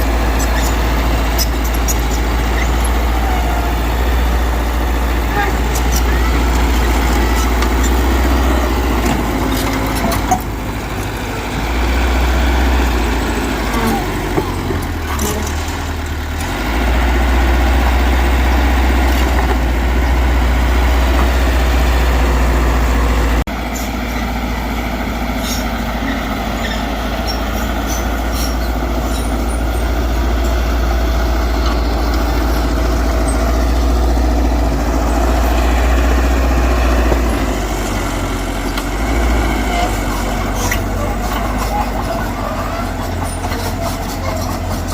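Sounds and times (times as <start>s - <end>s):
diesel machinery rumbling: 0.0s - 44.9s.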